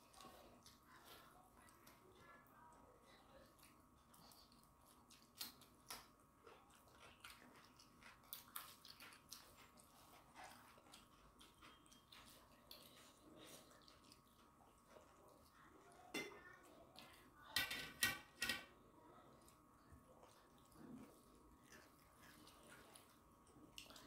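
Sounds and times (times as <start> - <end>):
eating and mixing rice by hand: 0.0 - 24.0.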